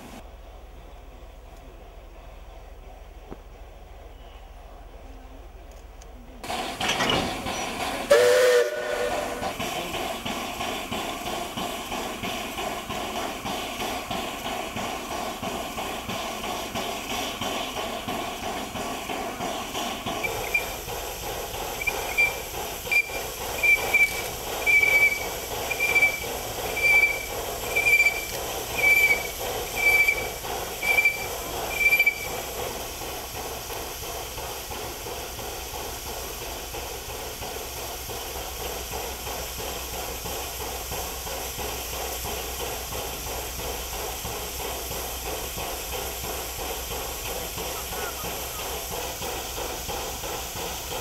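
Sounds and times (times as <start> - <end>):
steam hissing from locomotive: 0.0 - 0.2, 6.4 - 51.0.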